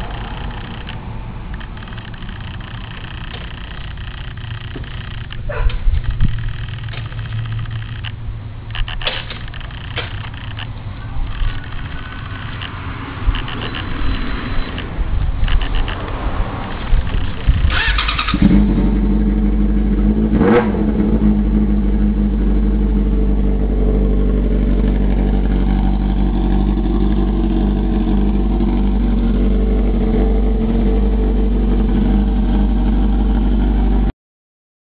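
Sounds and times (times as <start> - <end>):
motorcycle engine starting and idling: 0.0 - 34.1.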